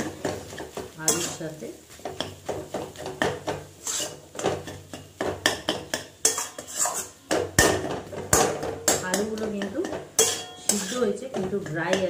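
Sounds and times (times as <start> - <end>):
steel spatula scraping pan: 0.0 - 1.5, 2.1 - 12.0.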